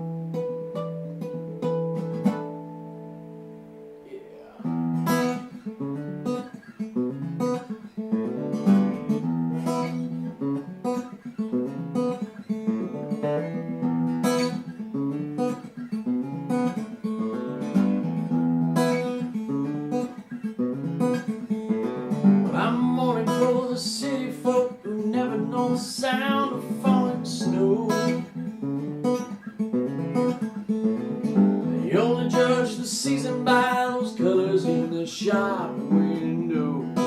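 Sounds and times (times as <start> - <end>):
acoustic guitar strumming and picking: 0.0 - 37.0.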